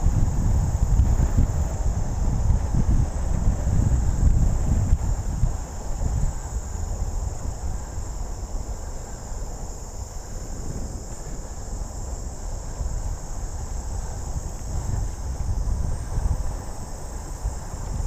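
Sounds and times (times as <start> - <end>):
crickets chirping: 0.0 - 18.0
wind on microphone: 0.0 - 18.0.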